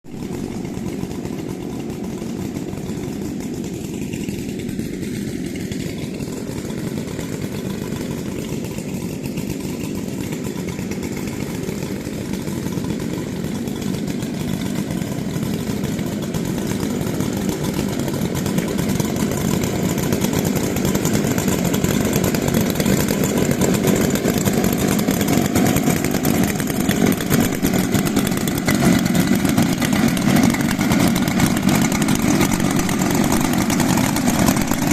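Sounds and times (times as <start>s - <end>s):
chainsaw running: 0.1s - 34.9s.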